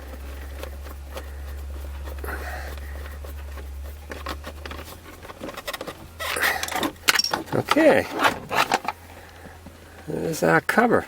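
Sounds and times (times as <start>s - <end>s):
plastic cover clicking and rattling: 0.0s - 10.1s
low steady hum: 0.0s - 11.0s.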